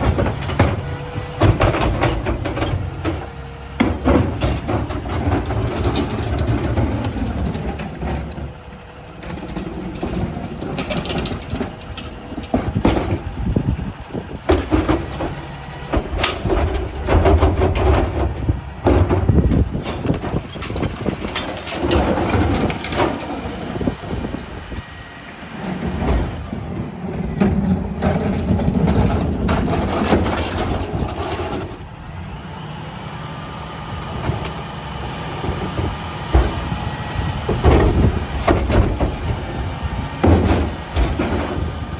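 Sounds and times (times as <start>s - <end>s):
garbage truck diesel engine: 0.0s - 41.9s.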